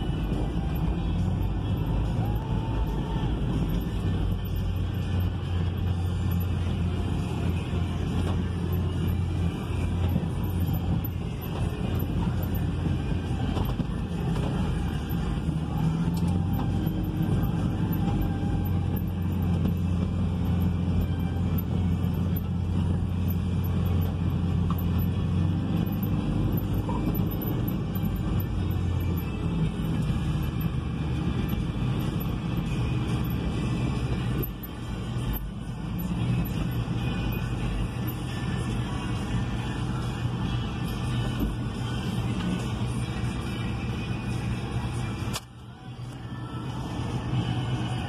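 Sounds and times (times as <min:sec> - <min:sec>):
engine droning: 0:00.0 - 0:48.0.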